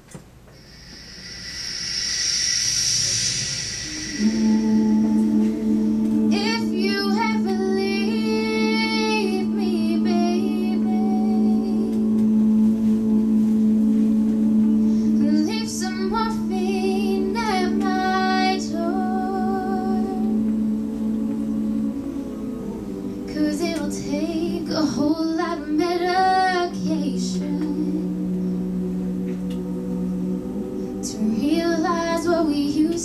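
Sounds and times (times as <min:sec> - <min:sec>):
voices holding low chord: 0:00.6 - 0:33.0
high voice singing melody: 0:02.7 - 0:33.0.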